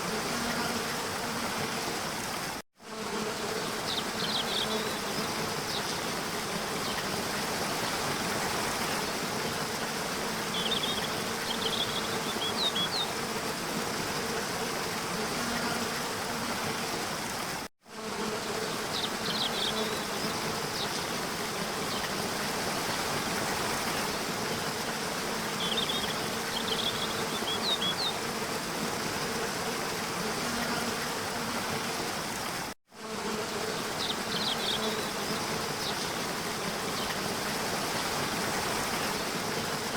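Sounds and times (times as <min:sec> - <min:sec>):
insect buzzing: 0:00.0 - 0:39.9.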